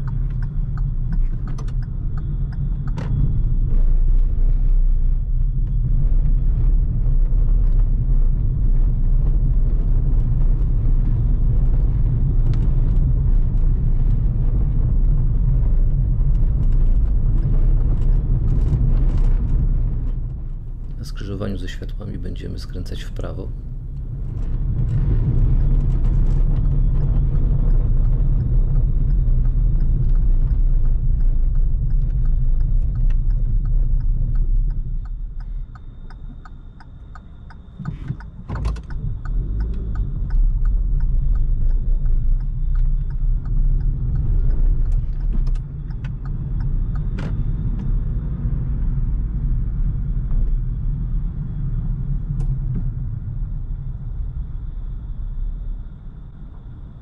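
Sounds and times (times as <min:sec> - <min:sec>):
tyres and engine rumble: 0:00.0 - 0:57.0.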